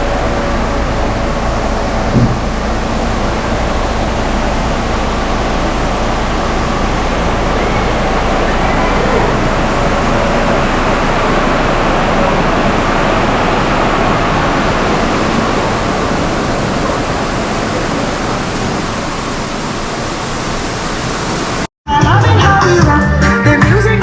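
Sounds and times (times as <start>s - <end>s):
waterfall rushing: 0.0s - 21.7s.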